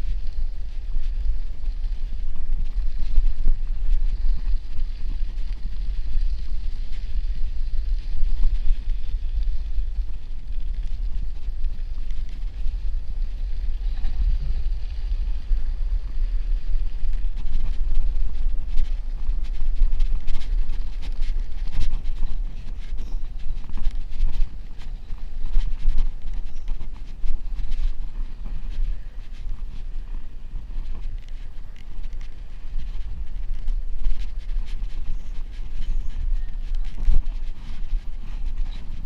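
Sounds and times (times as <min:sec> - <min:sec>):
bicycle tyres rolling on snow: 0:00.0 - 0:39.0
wind rumble on microphone: 0:00.0 - 0:39.0.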